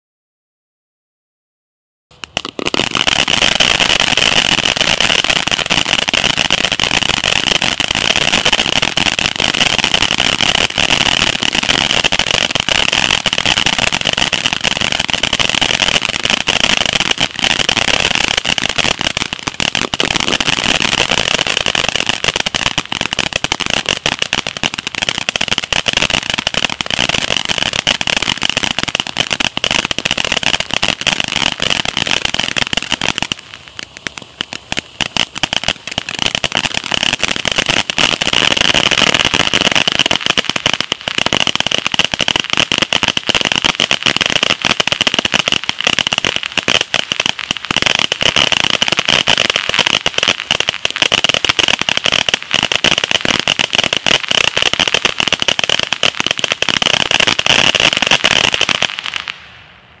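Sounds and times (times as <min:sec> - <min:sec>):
firework fountain crackling: 0:02.1 - 1:00.0.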